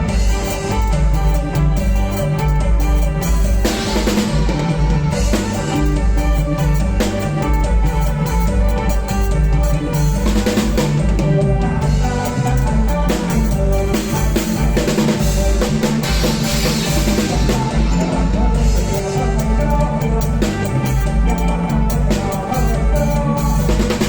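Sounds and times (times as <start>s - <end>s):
drum kit beat: 0.0s - 24.0s
live band playing instrumental: 0.0s - 24.0s.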